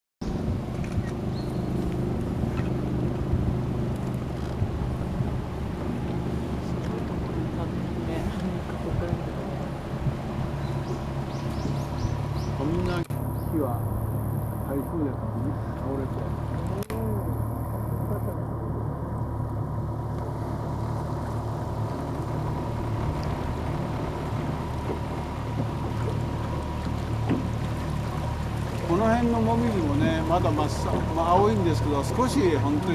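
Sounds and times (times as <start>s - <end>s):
boat engine droning: 0.2s - 32.9s.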